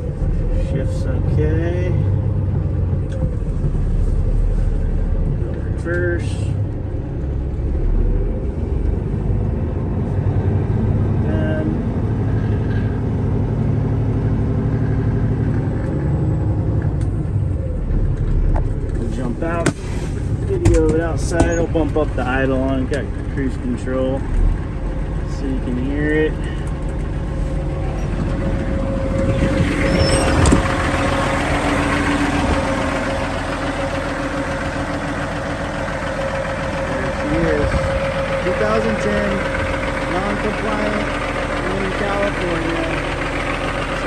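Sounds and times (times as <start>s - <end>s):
diesel truck engine idling: 0.0s - 44.0s.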